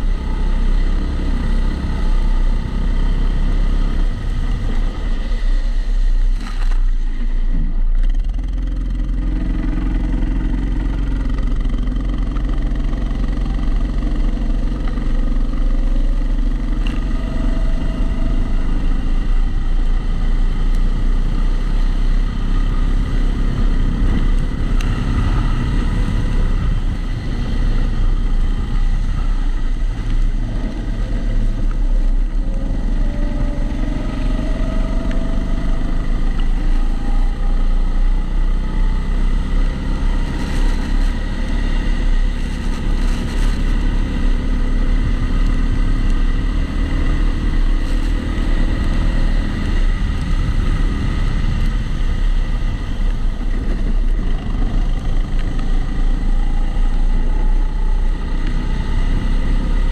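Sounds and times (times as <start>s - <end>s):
muffled kart engine: 0.0s - 59.9s.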